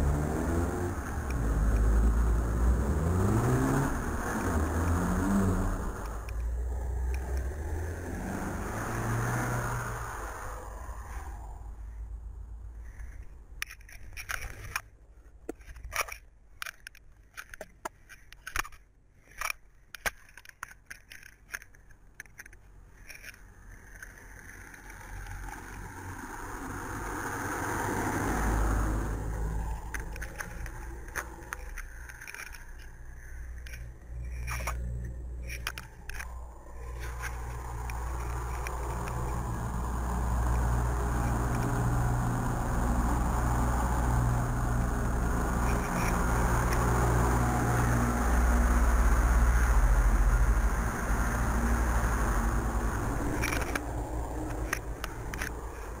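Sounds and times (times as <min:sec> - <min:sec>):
vehicle passing: 0:00.0 - 0:14.8, 0:23.2 - 0:56.0
engines running low: 0:00.0 - 0:56.0.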